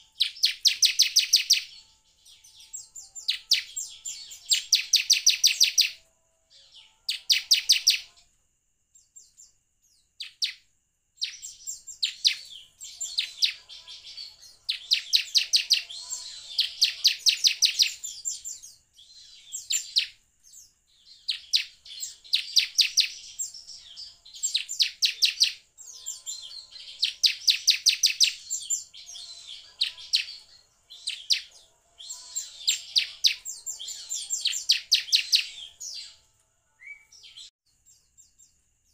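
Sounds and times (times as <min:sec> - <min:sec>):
bird singing sharp high chirps: 0:00.0 - 0:08.2, 0:11.2 - 0:37.6.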